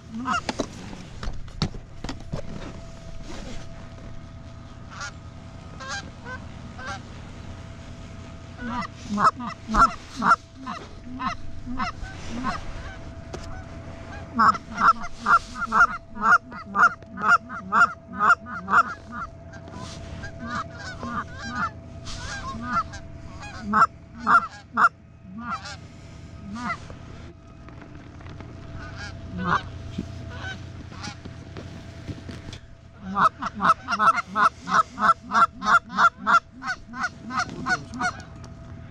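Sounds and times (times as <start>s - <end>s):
goose honking: 0.0s - 0.6s, 3.1s - 38.8s.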